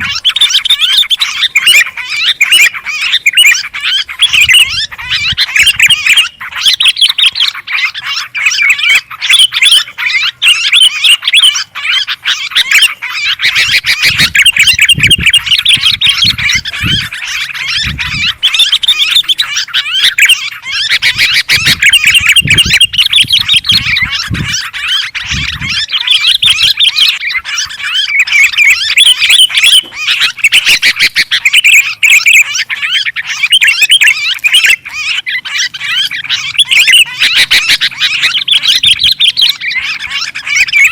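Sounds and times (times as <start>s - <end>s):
bulbuls chattering and squawking: 0.0s - 40.9s.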